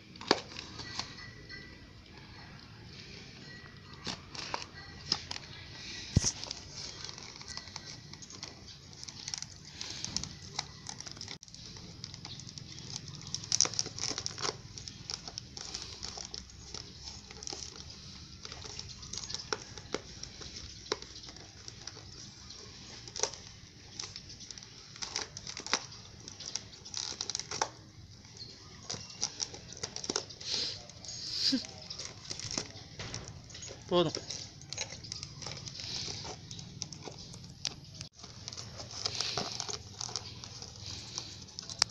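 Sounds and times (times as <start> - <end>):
dog chewing paper cup: 0.0 - 41.9.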